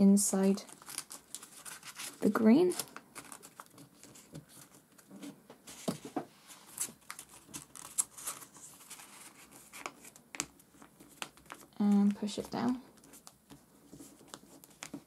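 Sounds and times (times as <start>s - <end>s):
paper crinkling and rustling: 0.4s - 15.0s.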